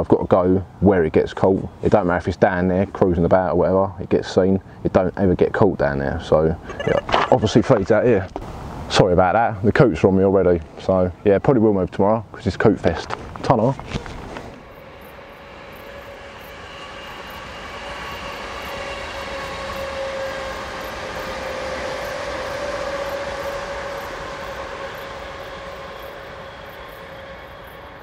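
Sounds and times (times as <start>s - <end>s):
train whine: 0.0s - 28.0s
passenger train passing: 1.7s - 13.4s, 14.5s - 28.0s.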